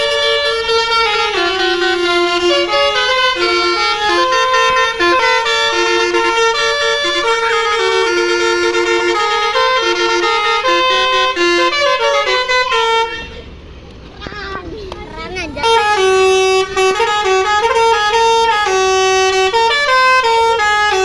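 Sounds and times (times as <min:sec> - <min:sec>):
bus air horn playing a tune: 0:00.0 - 0:13.8, 0:15.2 - 0:21.0.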